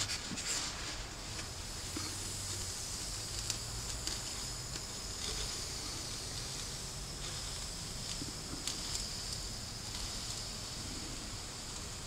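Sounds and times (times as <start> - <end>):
hot wire sizzling through foam: 0.0 - 12.0.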